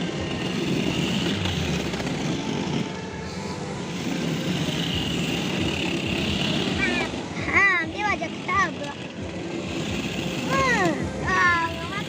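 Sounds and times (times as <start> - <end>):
toy motor whine: 0.0 - 12.0
wheels rumbling on ground: 0.0 - 12.0.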